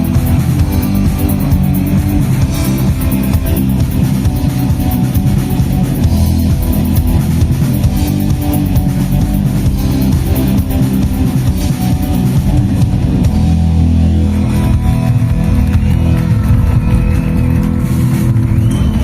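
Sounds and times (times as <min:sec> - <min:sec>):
dense drumming: 0:00.0 - 0:19.0
rock band playing live: 0:00.0 - 0:19.0.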